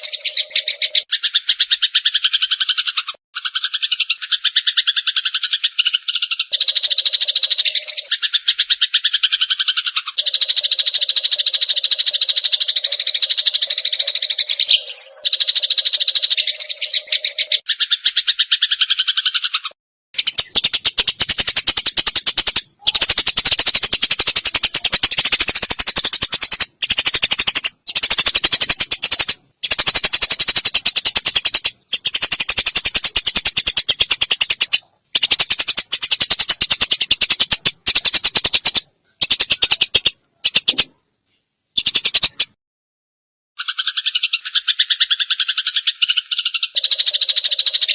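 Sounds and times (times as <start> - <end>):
sparrows chattering: 0.0 - 40.9, 41.8 - 42.6, 43.6 - 47.9.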